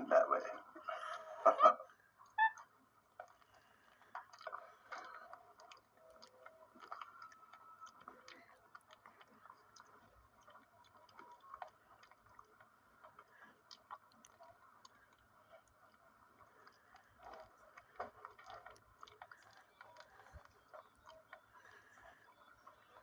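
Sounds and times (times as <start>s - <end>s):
monkey chewing and smacking: 2.2s - 23.0s.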